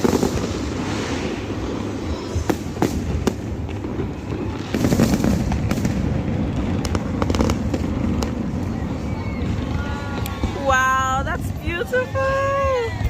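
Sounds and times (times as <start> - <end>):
fireworks rumbling and banging: 0.0 - 13.0.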